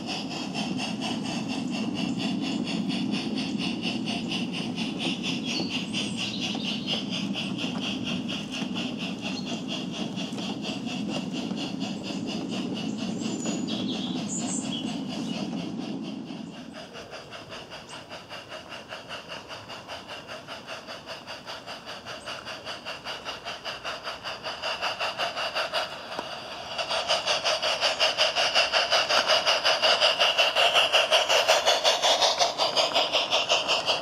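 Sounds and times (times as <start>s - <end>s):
simulated steam locomotive chuffing: 0.0s - 34.0s.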